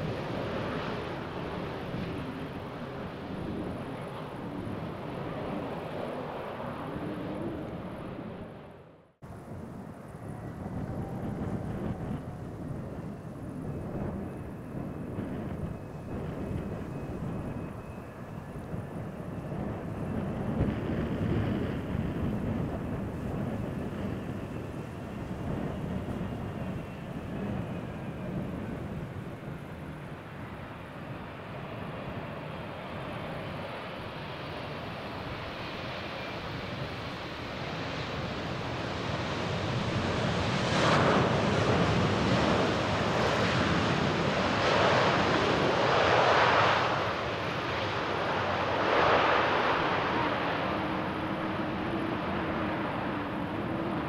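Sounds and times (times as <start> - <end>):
jet engine rumble: 0.0 - 54.0
rushing jet engine noise: 0.0 - 54.0.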